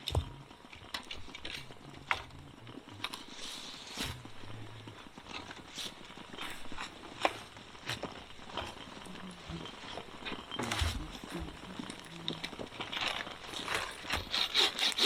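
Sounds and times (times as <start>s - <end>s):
campfire crackling and popping: 0.0s - 15.0s
soft hiss: 0.0s - 15.0s.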